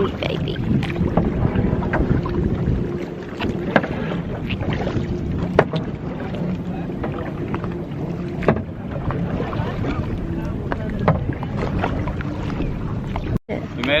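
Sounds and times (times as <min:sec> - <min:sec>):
paddle splashes: 0:00.0 - 0:14.0
water sloshing: 0:00.0 - 0:14.0
wind on microphone: 0:00.0 - 0:14.0.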